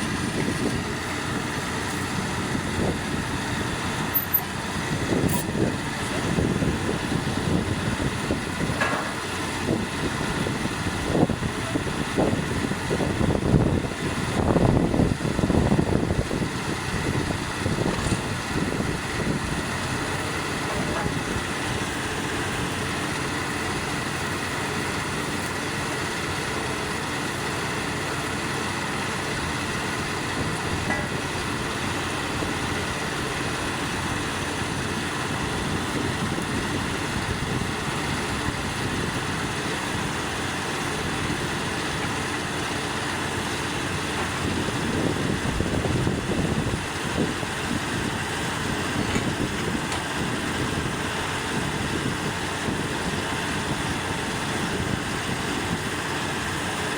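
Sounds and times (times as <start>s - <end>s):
drilling rig engines running: 0.0s - 56.9s.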